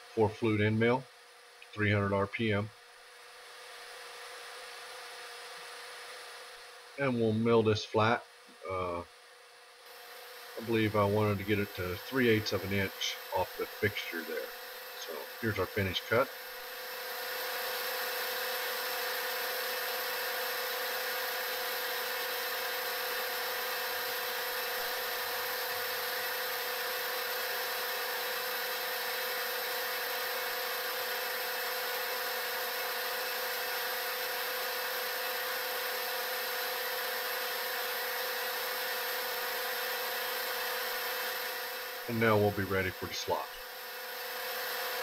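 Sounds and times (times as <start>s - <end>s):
milling machine hum: 0.0s - 45.0s.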